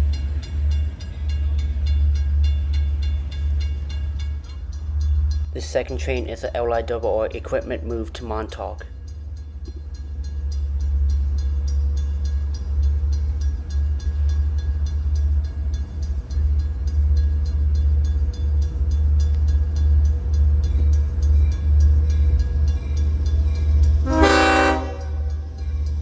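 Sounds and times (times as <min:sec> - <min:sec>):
diesel train rumble: 0:00.0 - 0:26.0.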